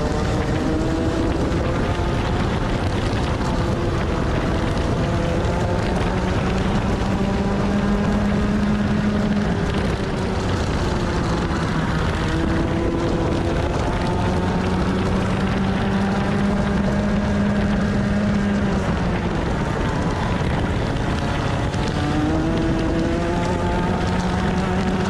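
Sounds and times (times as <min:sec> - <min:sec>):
two-stroke kart engine accelerating: 0:00.0 - 0:25.0.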